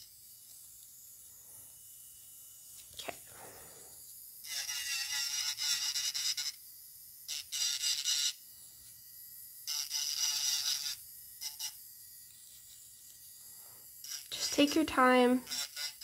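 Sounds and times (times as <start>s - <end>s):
electric nail file grinding whine: 0.0s - 16.0s.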